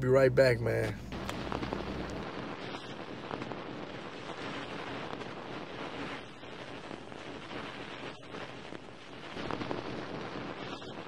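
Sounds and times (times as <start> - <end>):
faint crackles: 0.0 - 11.0
static-like rushing noise: 0.0 - 11.0.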